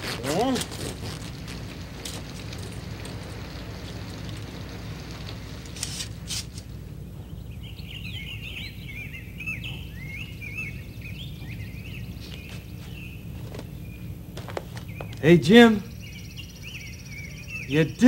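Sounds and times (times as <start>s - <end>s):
birds twittering: 0.0s - 18.0s
rain hissing: 0.0s - 18.0s.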